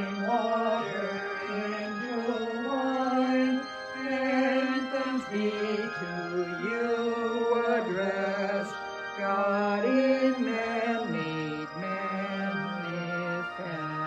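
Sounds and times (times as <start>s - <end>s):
slow hymn melody: 0.0s - 14.0s.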